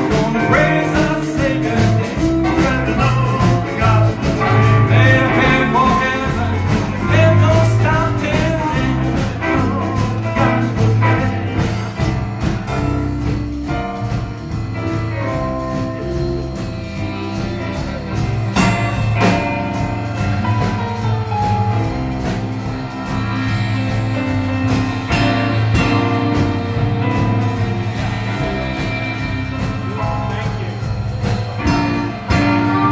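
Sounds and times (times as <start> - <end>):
live band playing: 0.0 - 32.9.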